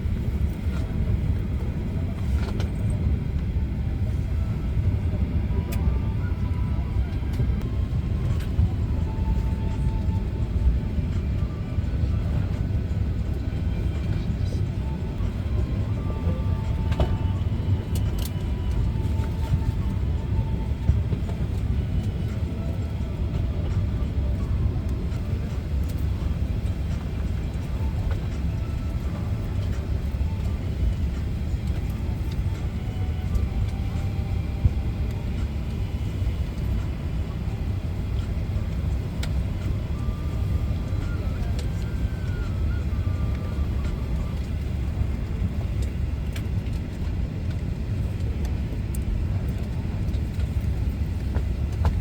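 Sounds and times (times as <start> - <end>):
airliner cabin rumble: 0.0 - 52.0.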